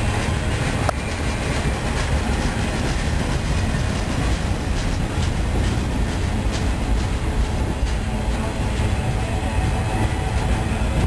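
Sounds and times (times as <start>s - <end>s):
steel wheels rumbling on rail: 0.0s - 11.0s
wheels clicking over rail joints: 0.0s - 11.0s.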